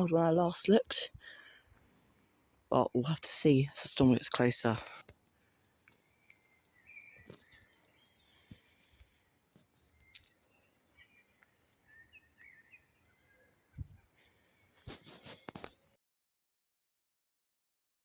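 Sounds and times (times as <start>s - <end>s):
faint birdsong: 0.0s - 15.9s.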